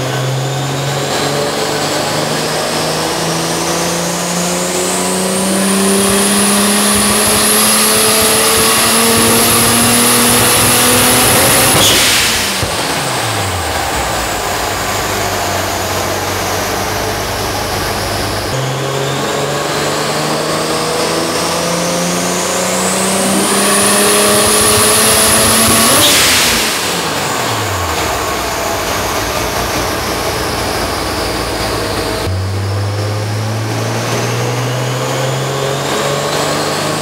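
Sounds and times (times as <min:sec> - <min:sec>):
turbo whine: 0:00.0 - 0:36.4
car engine revving: 0:00.0 - 0:37.0.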